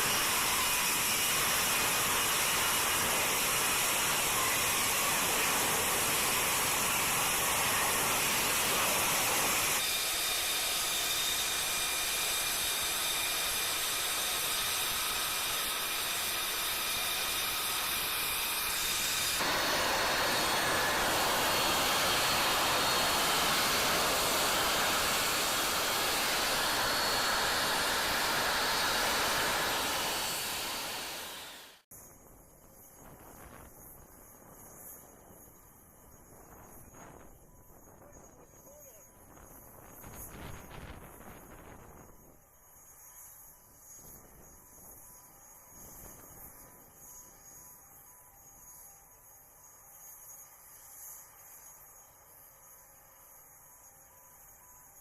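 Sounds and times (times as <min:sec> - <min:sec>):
jet engine hiss with turbine whine: 0:00.0 - 0:55.0.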